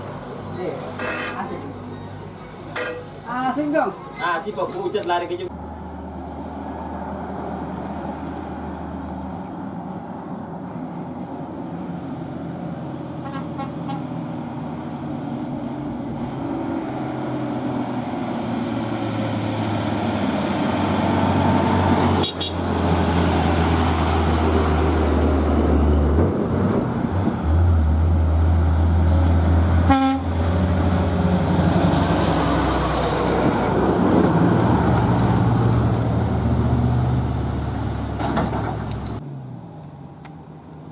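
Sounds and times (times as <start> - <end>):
heavy diesel truck engine: 5.5 - 39.6.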